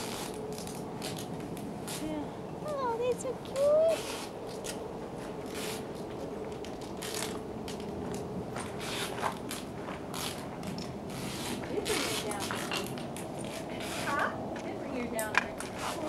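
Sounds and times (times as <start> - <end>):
handling rustles and crackles: 0.0 - 16.0.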